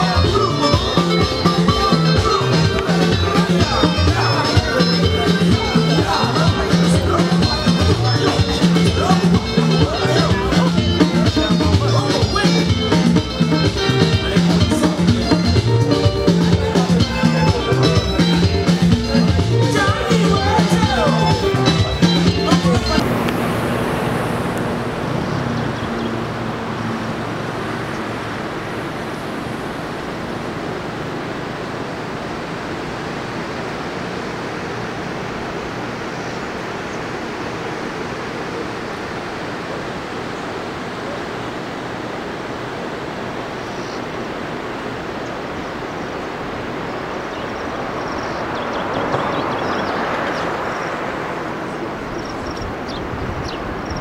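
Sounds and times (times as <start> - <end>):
outdoor rushing noise: 0.0 - 54.0.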